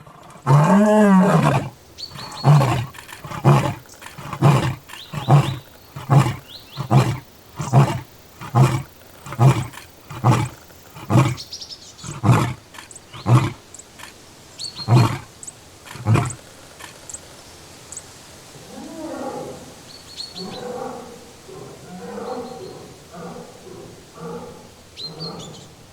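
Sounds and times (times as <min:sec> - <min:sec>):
lion roaring: 0:00.0 - 0:11.4, 0:12.0 - 0:14.2, 0:14.9 - 0:15.3, 0:15.9 - 0:16.4, 0:18.6 - 0:19.7, 0:20.4 - 0:25.7
lion grunting: 0:00.0 - 0:14.2, 0:14.8 - 0:15.3, 0:15.9 - 0:17.0, 0:20.4 - 0:25.7.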